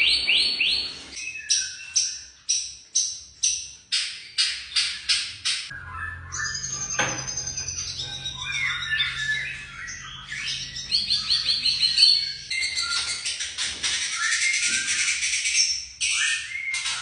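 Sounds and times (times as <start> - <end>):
bird singing whistles and trills: 0.0 - 17.0.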